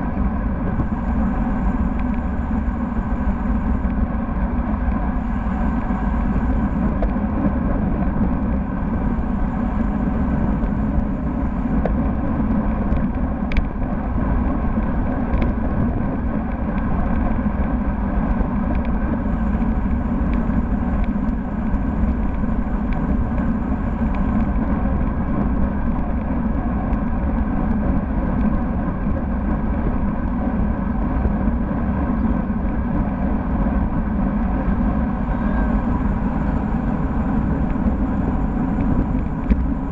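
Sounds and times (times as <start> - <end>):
road rumble: 0.0 - 39.9
wind rush on microphone: 0.0 - 39.9.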